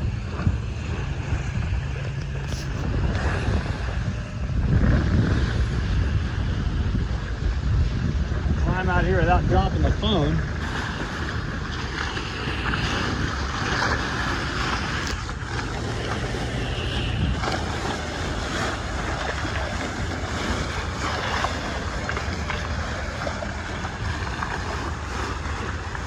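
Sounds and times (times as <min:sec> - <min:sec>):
water splashing along boat hull: 0:00.0 - 0:26.0
wind buffeting microphone: 0:00.0 - 0:26.0.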